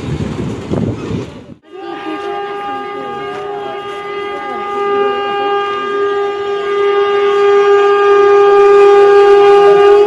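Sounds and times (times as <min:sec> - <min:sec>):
train horn blast: 0:01.6 - 0:10.0.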